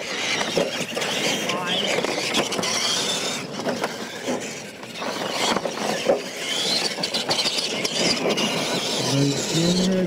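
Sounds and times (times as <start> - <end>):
electric motor whine: 0.0 - 10.0
tyres on dirt: 0.0 - 10.0.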